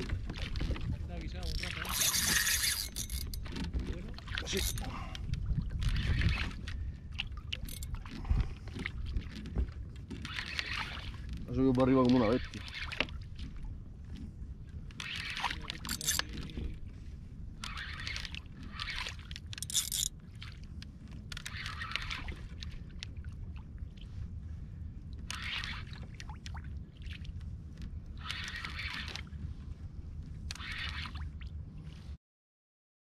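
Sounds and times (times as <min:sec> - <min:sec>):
water sloshing and splashing: 0:00.0 - 0:32.2
wind rumble on microphone: 0:00.0 - 0:32.2.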